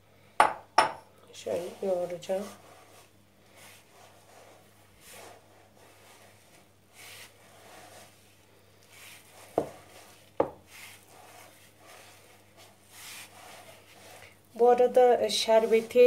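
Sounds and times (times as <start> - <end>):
hands kneading dough: 1.4 - 16.0.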